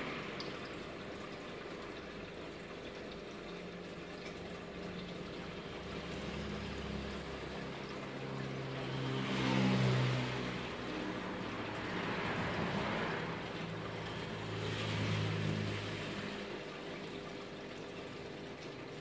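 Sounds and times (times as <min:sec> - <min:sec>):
water trickling in aquarium: 0:00.0 - 0:19.0.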